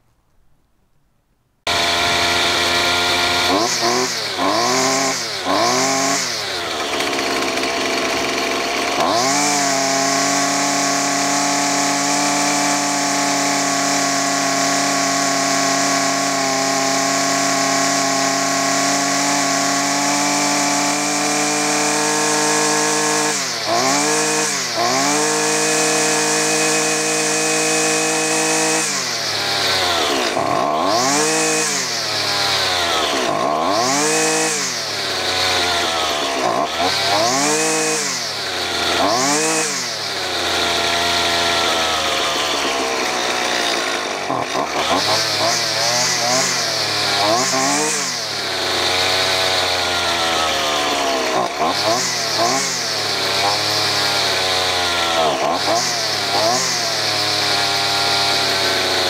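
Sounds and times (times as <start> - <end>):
string trimmer engine revving: 1.7 - 59.0.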